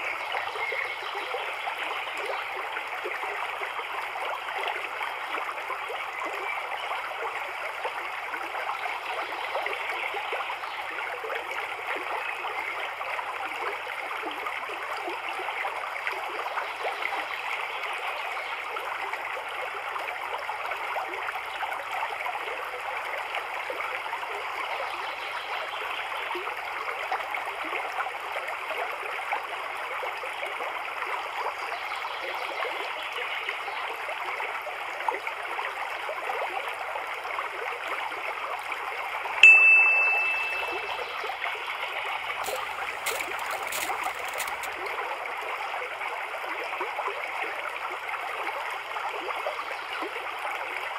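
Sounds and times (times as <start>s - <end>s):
running trickling water: 0.0s - 50.9s.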